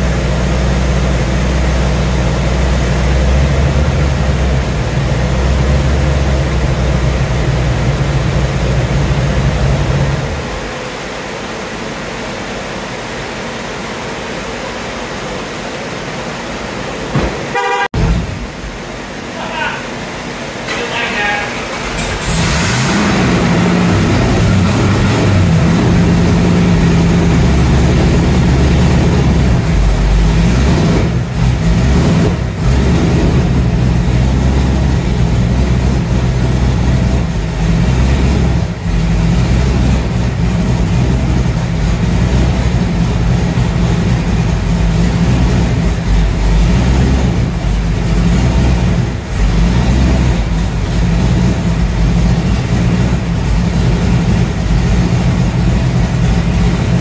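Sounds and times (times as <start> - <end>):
car engine running under load: 0.0 - 57.0.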